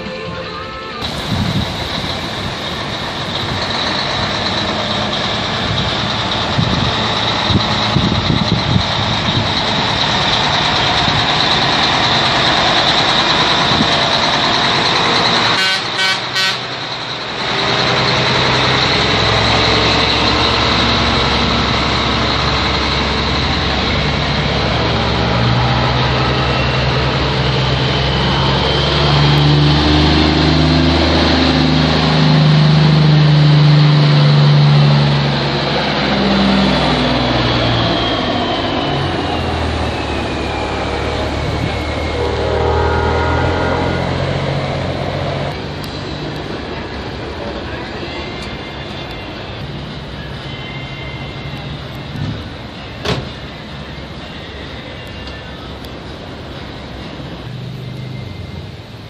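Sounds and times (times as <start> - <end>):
diesel truck engines: 0.0 - 59.0.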